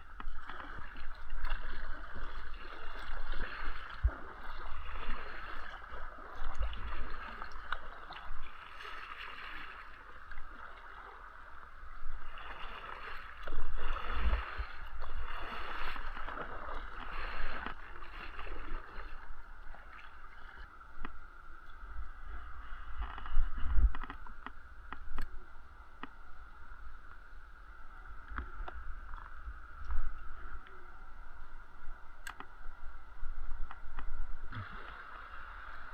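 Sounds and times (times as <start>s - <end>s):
water splashing around a kayak: 0.0s - 35.9s
wind rumbling on microphone: 0.0s - 35.9s.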